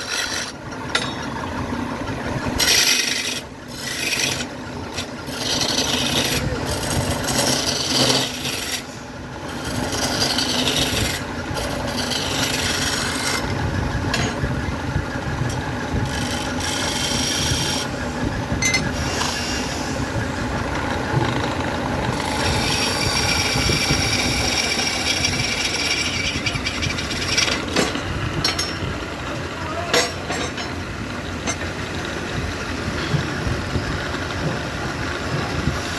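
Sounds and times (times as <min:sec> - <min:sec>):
lathe motor hum: 0:00.0 - 0:35.9
tool scraping spinning wood: 0:00.0 - 0:35.9.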